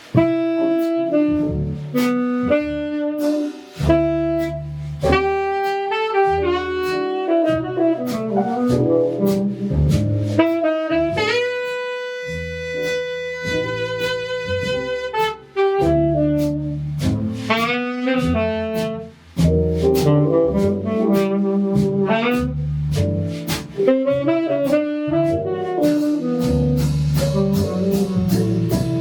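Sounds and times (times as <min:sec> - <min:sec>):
bass notes: 0:00.0 - 0:29.0
saxophone jazz melody: 0:00.0 - 0:29.0.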